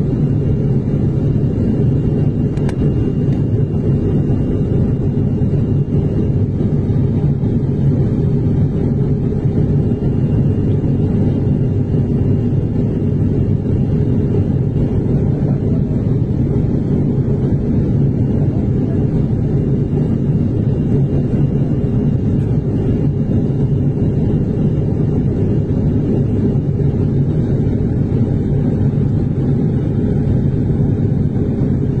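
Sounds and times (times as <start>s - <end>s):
propeller airliner engines droning: 0.0s - 32.0s.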